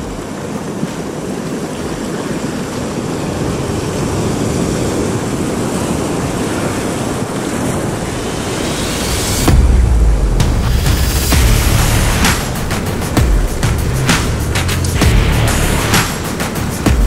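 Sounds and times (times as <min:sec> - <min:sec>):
wind buffeting microphone: 0:00.0 - 0:15.1
surf washing over rocks: 0:00.0 - 0:17.0.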